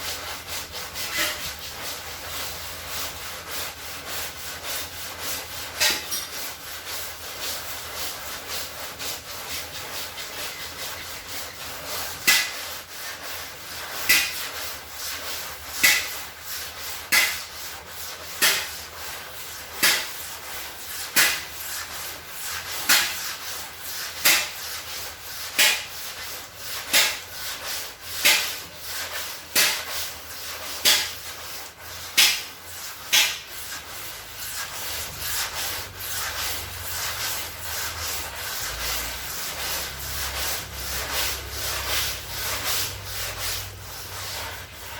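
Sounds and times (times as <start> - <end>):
sandpaper rubbing metal: 0.0 - 44.9.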